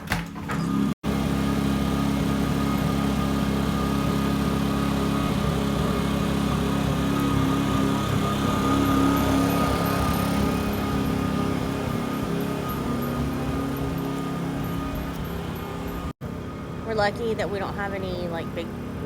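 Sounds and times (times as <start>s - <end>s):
generator engine humming: 0.3s - 19.0s.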